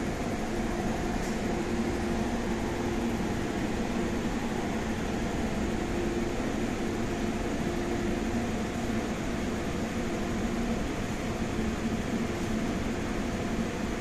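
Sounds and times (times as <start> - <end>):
train mechanical hum: 0.0 - 14.0.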